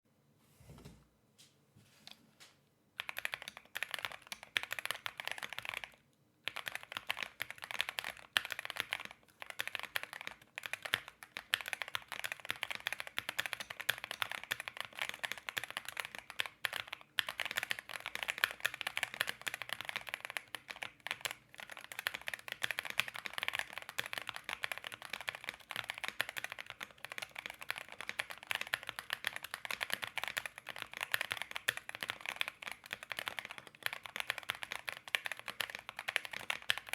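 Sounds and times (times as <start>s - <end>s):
mechanical keyboard typing: 3.0s - 36.9s.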